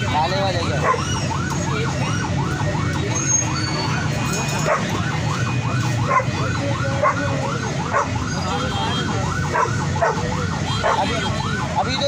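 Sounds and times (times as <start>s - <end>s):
electronic siren yelping: 0.0s - 12.0s.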